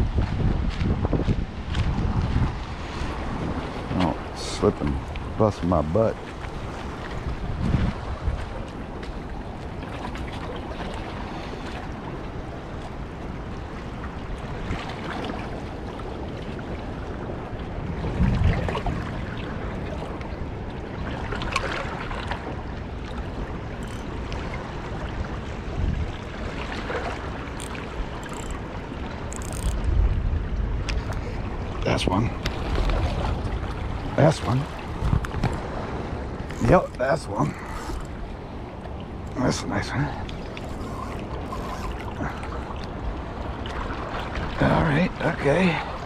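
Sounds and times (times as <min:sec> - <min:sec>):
water noise: 0:00.0 - 0:46.0
wind: 0:00.0 - 0:46.0.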